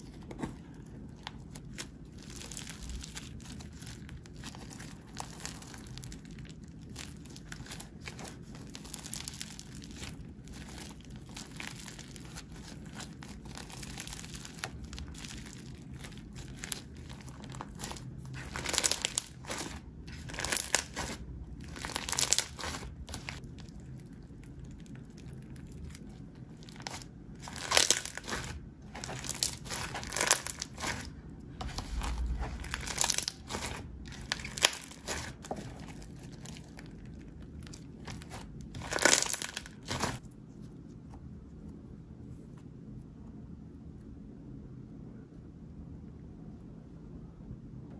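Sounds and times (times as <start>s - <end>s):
slime crackling when squeezed: 1.2s - 40.2s.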